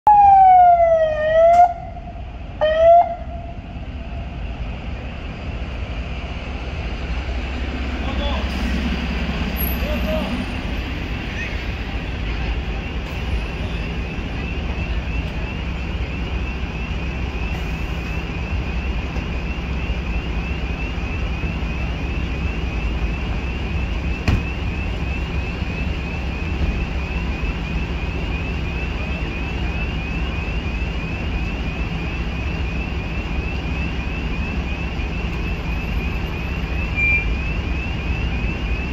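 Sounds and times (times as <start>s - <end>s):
diesel engines idling: 0.1s - 38.9s
electronic alarm rising sweep: 0.1s - 38.9s.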